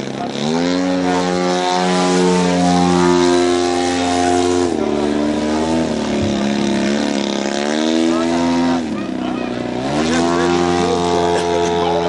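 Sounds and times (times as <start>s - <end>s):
model airplane engine and propeller: 0.0s - 12.0s.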